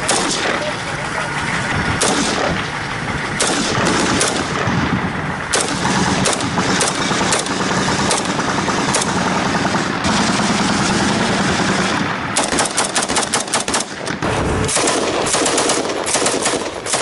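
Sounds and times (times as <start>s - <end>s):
gunshots: 0.0s - 0.8s, 2.0s - 2.7s, 3.3s - 17.0s
vehicle engine and road rumble: 0.0s - 17.0s.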